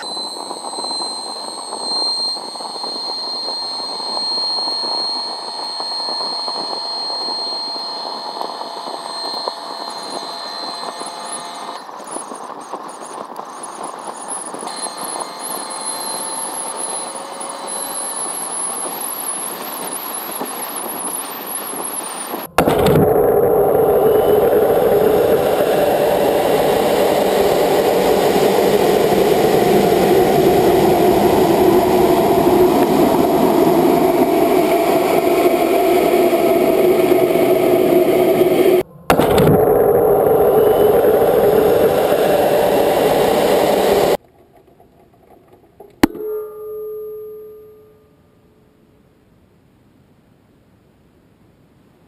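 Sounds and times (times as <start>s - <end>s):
short ringing tone: 0.0s - 11.9s, 14.0s - 44.2s, 46.0s - 48.7s
rocket motor roaring: 0.0s - 44.2s.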